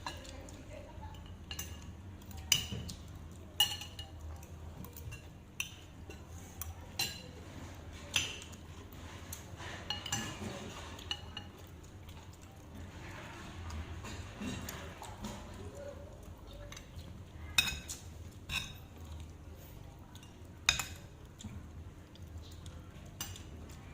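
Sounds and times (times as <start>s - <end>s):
low background hum: 0.0s - 23.9s
metal utensils clinking on dishes: 0.0s - 23.9s.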